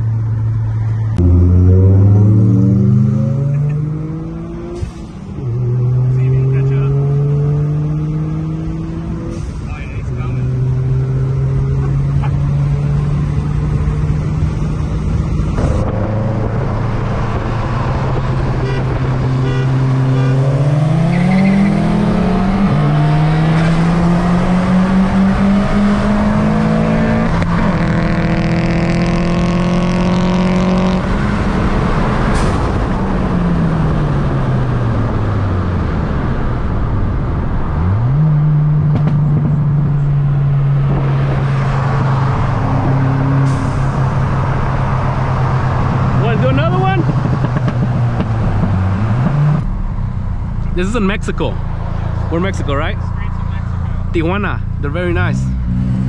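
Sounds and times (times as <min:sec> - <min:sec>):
car engine revving at full throttle: 0:00.0 - 0:56.0.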